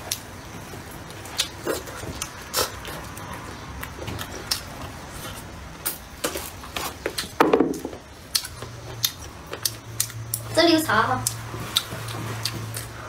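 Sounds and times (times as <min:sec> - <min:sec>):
person chewing with wet smacking: 0:00.0 - 0:07.4, 0:08.2 - 0:10.5, 0:11.2 - 0:13.0.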